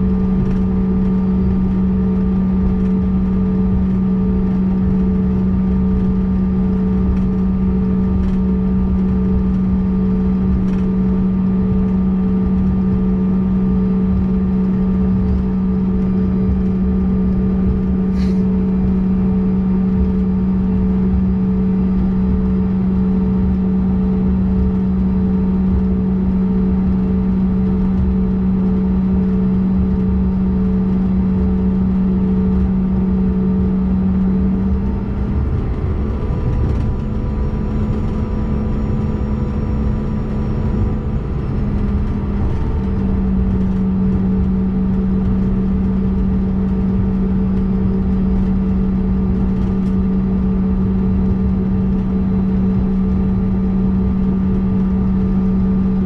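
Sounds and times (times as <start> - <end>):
jet engine cabin hum: 0.0 - 56.0.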